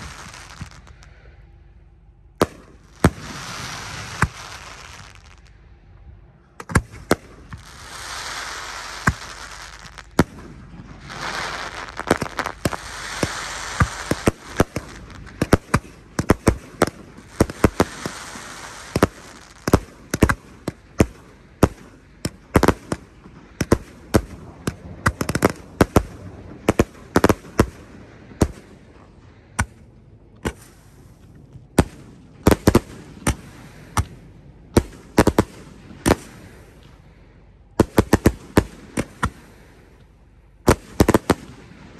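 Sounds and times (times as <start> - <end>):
fireworks bangs and pops: 0.0 - 1.2, 2.4 - 5.5, 6.6 - 37.0, 37.8 - 41.9
fireworks hissing crackle: 0.0 - 1.4, 2.4 - 5.6, 6.7 - 29.7, 30.5 - 37.1, 37.8 - 41.9.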